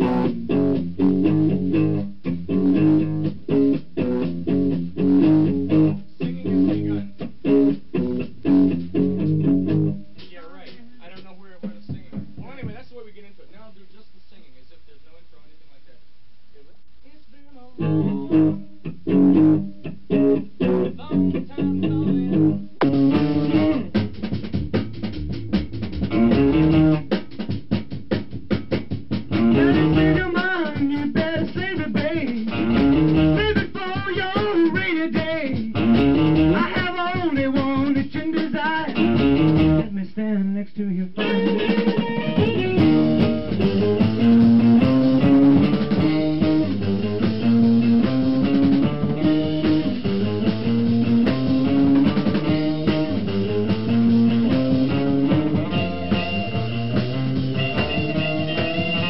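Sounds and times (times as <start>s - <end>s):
rock band playing blues-rock: 0.0s - 10.8s, 17.8s - 39.9s, 41.2s - 59.0s.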